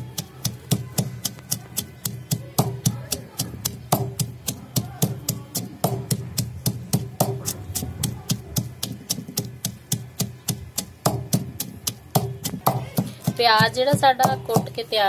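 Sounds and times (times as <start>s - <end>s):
pestle pounding onions in mortar: 0.0s - 15.0s.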